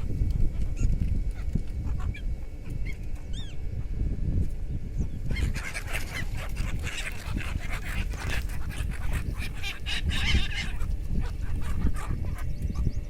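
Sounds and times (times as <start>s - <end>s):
flock of birds chattering: 0.0s - 13.0s
steady low rumble: 0.0s - 13.0s.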